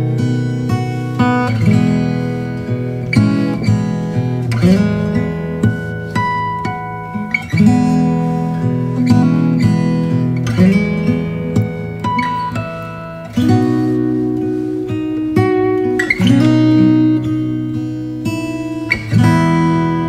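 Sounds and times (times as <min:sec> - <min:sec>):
acoustic guitar plucked and strummed: 0:00.0 - 0:20.0.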